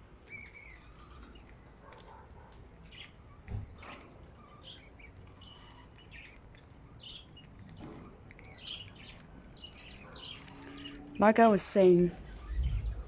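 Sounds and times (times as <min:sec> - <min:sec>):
budgerigars chirping: 0:00.2 - 0:02.1, 0:02.7 - 0:13.0.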